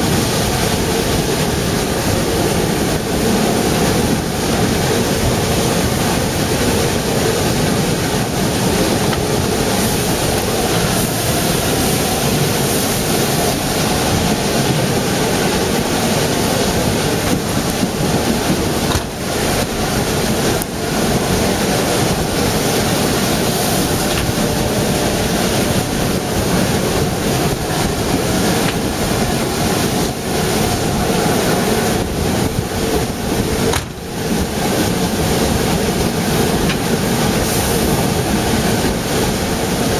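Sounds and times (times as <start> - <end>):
rushing air: 0.0 - 39.9
train wheels rumbling on rails: 0.0 - 39.9.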